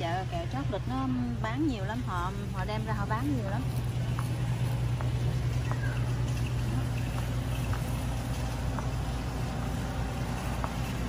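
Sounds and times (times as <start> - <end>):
warehouse store background hum: 0.0 - 11.0.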